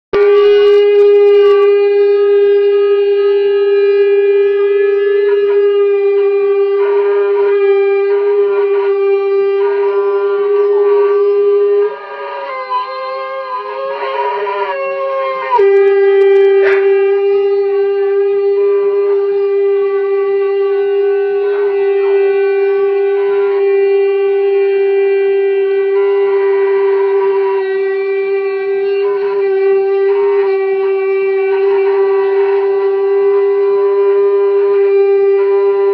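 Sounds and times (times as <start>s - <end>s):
higher wavering horn pitch: 0.1s - 35.9s
shofars blowing steady note: 0.1s - 35.9s.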